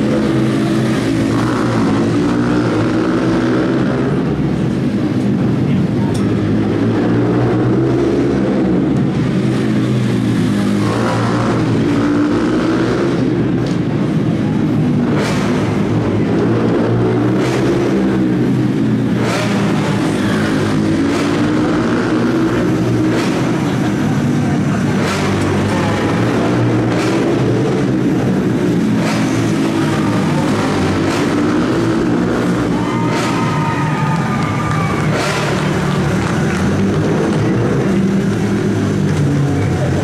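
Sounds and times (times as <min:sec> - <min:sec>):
atv engines revving: 0:00.0 - 0:40.0.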